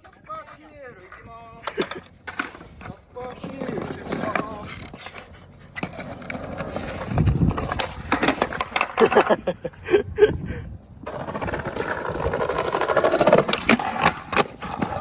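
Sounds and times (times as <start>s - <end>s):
skateboard clacking: 0.0s - 9.8s, 11.0s - 15.0s
skateboard wheels rolling on concrete: 0.0s - 15.0s.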